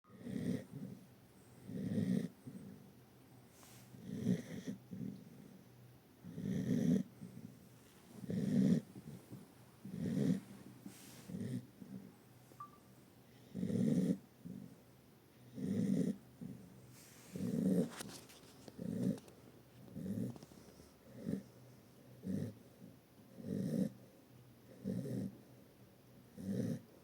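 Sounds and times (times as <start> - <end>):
pet snoring: 0.1 - 2.9, 3.6 - 5.6, 6.2 - 7.6, 8.2 - 12.1, 13.3 - 14.8, 15.4 - 24.1, 24.7 - 25.4, 26.3 - 27.0.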